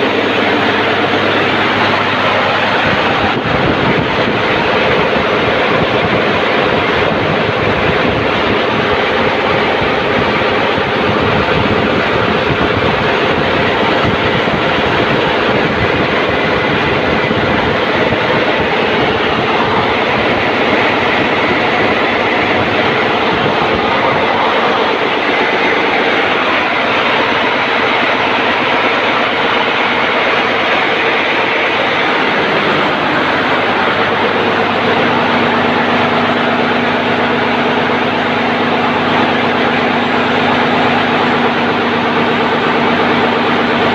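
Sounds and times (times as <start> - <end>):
diesel generator engine running: 0.0 - 43.9.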